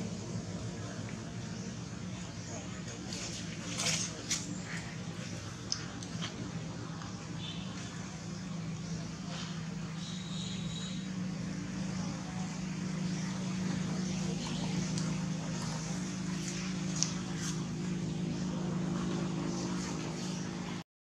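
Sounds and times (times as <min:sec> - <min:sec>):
low mechanical hum: 0:00.0 - 0:20.8.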